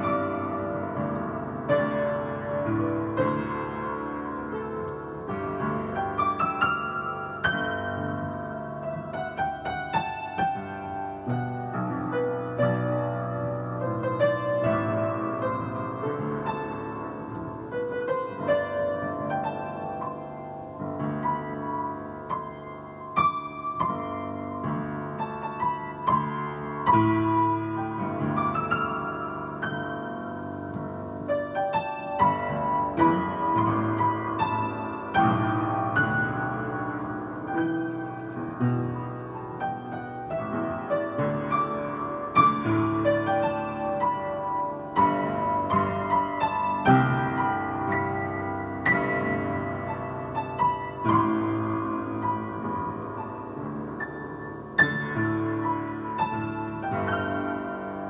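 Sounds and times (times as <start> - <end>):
piano playing melody: 0.0 - 58.0.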